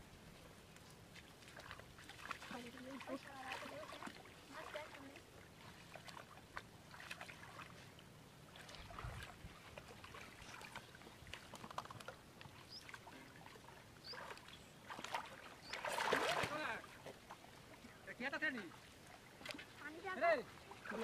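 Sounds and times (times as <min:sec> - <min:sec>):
hands sloshing in shallow water: 0:00.7 - 0:18.0, 0:18.6 - 0:21.0
soft drips and clicks: 0:00.7 - 0:18.0.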